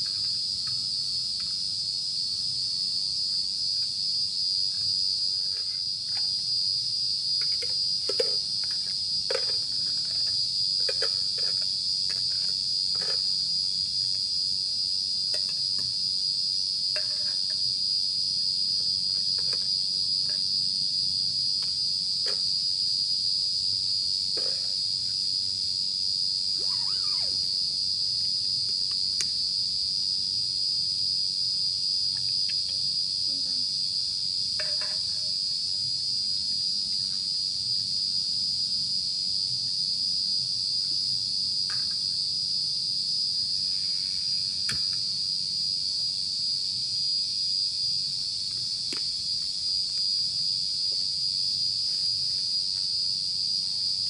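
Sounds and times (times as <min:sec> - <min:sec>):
insects trilling: 0:00.0 - 0:38.2, 0:39.4 - 0:54.0.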